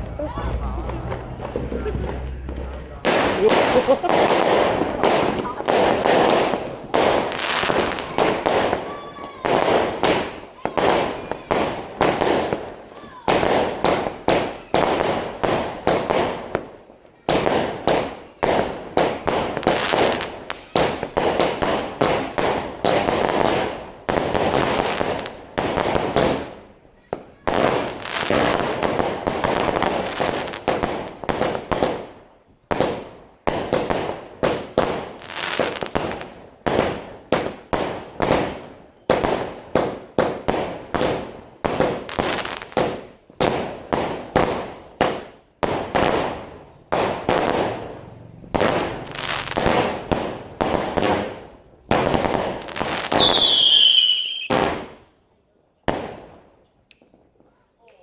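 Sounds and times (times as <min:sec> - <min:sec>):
firework bangs: 0:00.0 - 0:55.2, 0:55.8 - 0:57.6
firecrackers crackling: 0:00.0 - 0:58.0.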